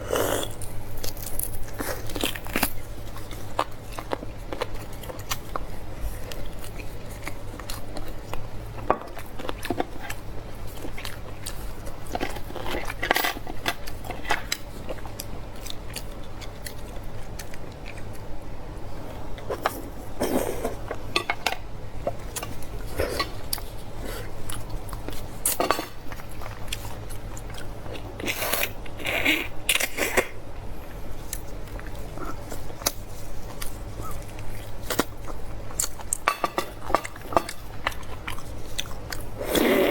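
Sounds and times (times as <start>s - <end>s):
steady low hum: 0.0s - 39.9s
chewing and biting: 0.3s - 18.3s, 22.0s - 30.3s, 30.9s - 39.9s.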